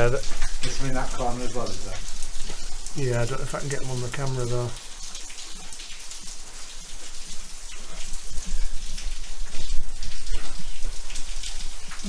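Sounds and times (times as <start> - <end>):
water dripping in tunnel: 0.0 - 12.0.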